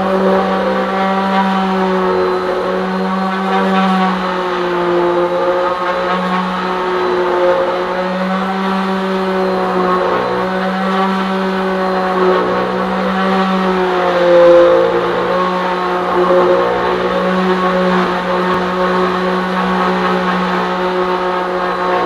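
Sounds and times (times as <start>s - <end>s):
palm sander on wood: 0.0s - 22.0s.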